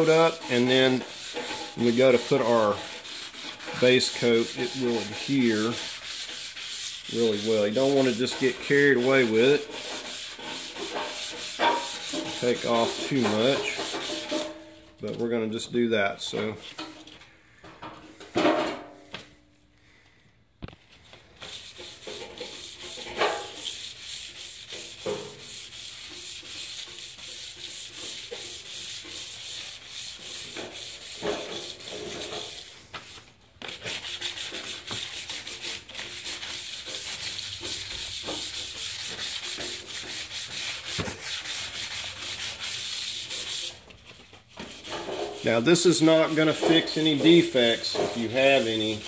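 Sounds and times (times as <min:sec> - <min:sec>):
sandpaper rubbing painted metal: 0:00.0 - 0:14.6, 0:21.3 - 0:49.0.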